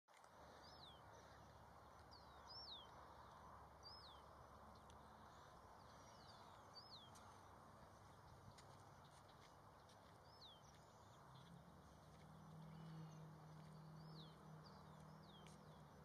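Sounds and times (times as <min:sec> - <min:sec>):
faint outdoor hush: 0:00.1 - 0:16.0.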